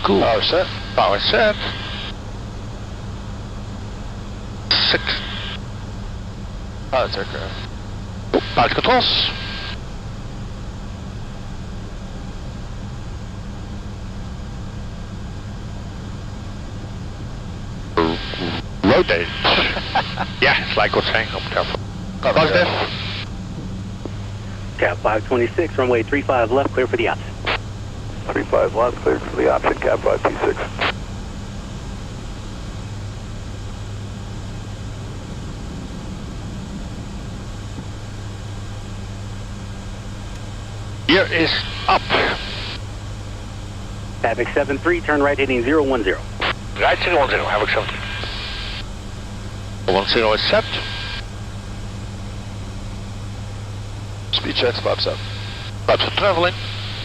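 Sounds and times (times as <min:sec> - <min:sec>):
turboprop engines drone in cockpit: 0:00.0 - 0:57.0.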